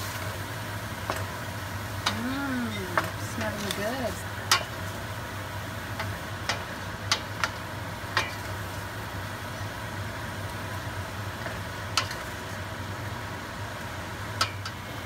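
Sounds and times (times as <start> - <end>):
liver and onions sizzling: 0.0 - 15.0.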